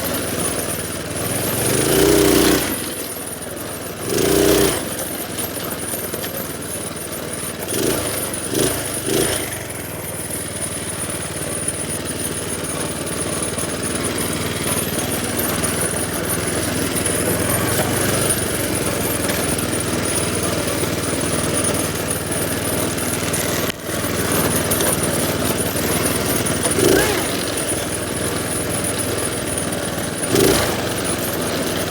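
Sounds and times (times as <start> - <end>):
small engine chattering drone: 0.0 - 31.9.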